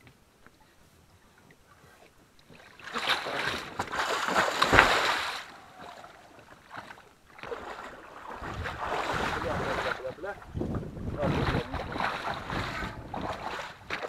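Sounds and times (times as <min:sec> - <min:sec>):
water splashing and sloshing: 0:00.5 - 0:14.0.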